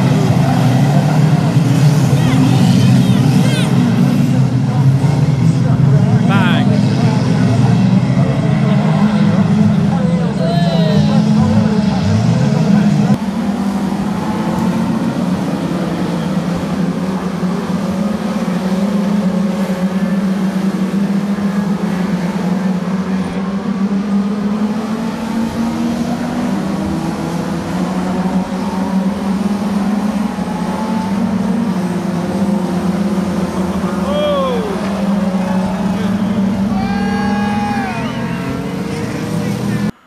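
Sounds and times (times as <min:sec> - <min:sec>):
race car engines droning: 0:00.0 - 0:40.0.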